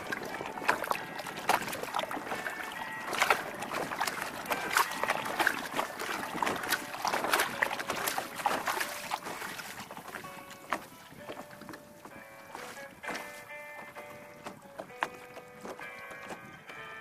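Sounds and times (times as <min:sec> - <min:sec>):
small waves lapping against kayak hull: 0:00.0 - 0:17.0
water splashes and drips: 0:00.0 - 0:17.0.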